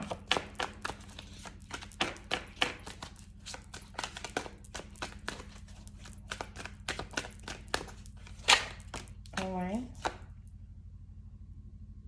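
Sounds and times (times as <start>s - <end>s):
cards shuffling: 0.0s - 10.3s
faint electrical hum: 0.0s - 12.0s.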